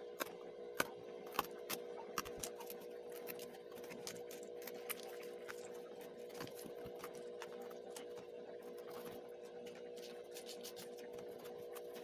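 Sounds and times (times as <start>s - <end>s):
steady hum: 0.0s - 12.0s
paperboard pieces crackling: 0.8s - 12.0s.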